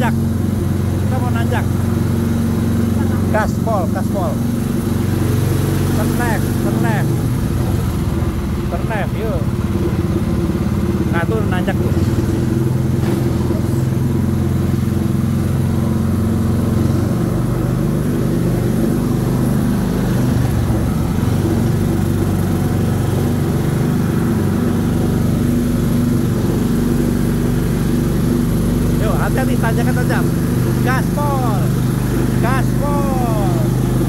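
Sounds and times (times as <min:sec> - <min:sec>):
wheels rumbling on track: 0:00.0 - 0:34.0.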